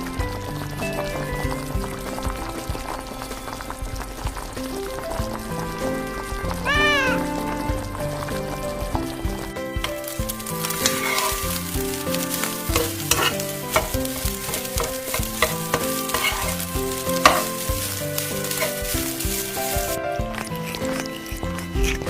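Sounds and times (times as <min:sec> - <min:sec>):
background music with bass: 0:00.0 - 0:22.0
food sizzling in a pan: 0:00.0 - 0:22.0.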